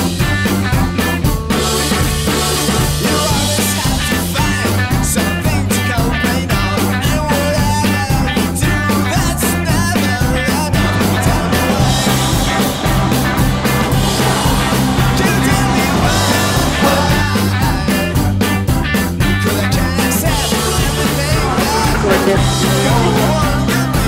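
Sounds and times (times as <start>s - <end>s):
rock music with drums and bass: 0.0s - 24.0s.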